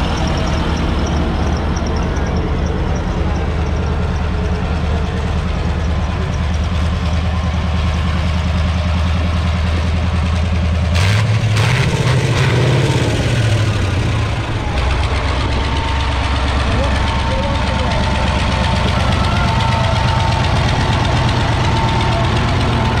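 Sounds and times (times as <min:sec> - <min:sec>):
tractor engine revving: 0:00.0 - 0:23.0.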